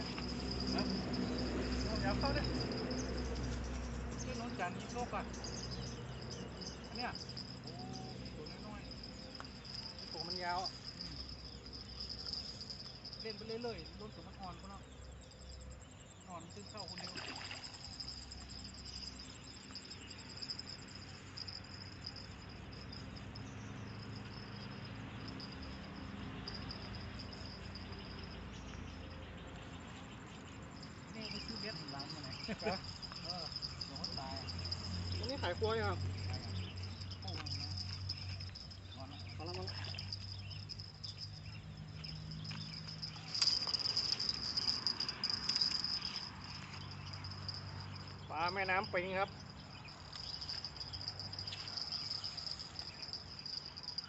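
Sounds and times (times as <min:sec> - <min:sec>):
crickets chirping in a high trill: 0:00.0 - 0:54.0.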